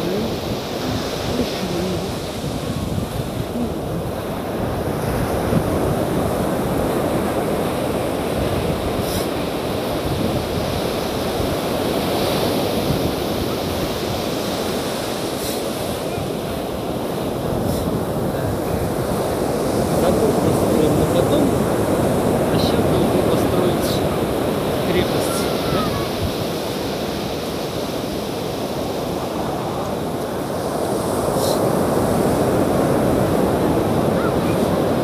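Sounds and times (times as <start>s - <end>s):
waves breaking on a beach: 0.0s - 35.0s
wind buffeting microphone: 0.0s - 35.0s.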